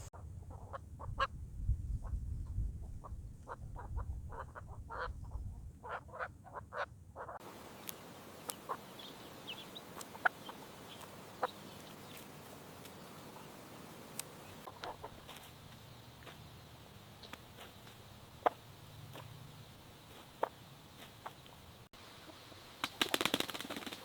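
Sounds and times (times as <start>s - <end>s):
chickens clucking: 3.0s - 24.0s.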